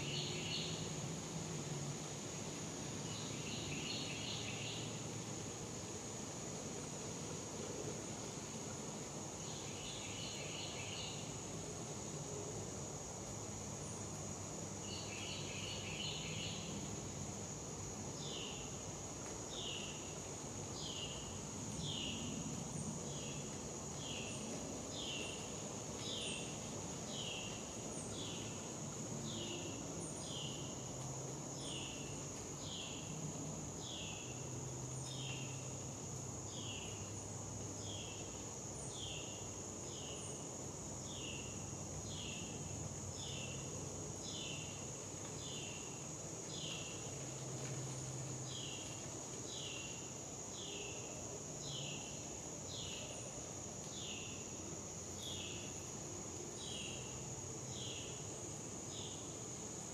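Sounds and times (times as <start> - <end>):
high insect buzz: 0.0 - 6.8, 8.1 - 59.9
insects chirping: 0.0 - 59.9.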